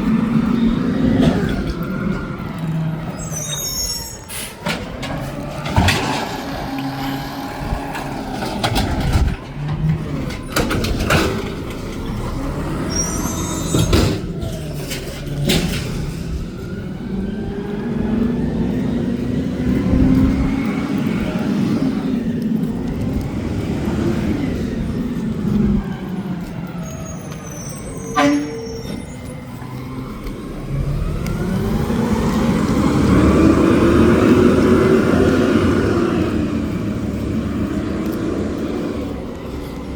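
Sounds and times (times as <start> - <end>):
garbage truck engine revving: 0.0 - 28.1, 28.7 - 39.9.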